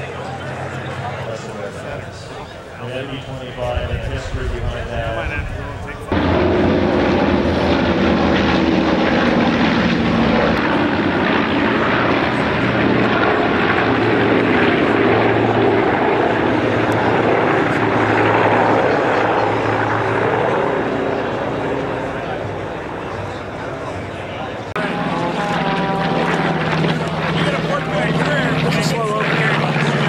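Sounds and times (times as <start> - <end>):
propeller planes droning overhead: 0.0 - 30.0.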